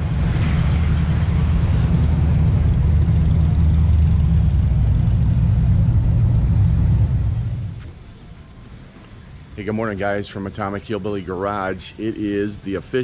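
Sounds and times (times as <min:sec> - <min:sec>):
car engine rumble: 0:00.0 - 0:11.6
road and traffic noise: 0:00.0 - 0:13.0.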